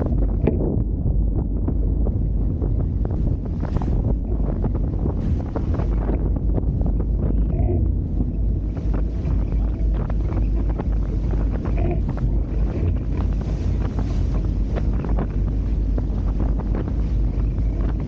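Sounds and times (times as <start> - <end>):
steady low rumble: 0.0 - 18.0
water slapping against hulls: 0.0 - 18.0
wind buffeting microphone: 0.0 - 18.0.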